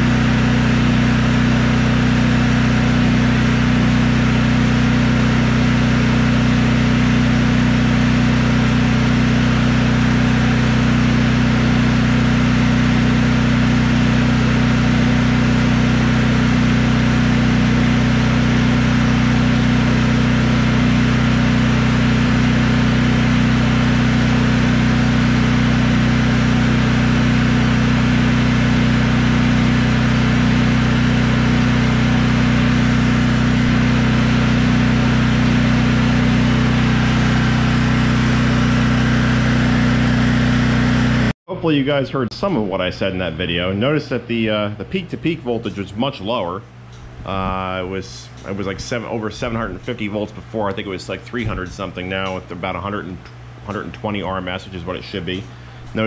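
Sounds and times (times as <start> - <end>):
generator engine running: 0.0 - 56.0.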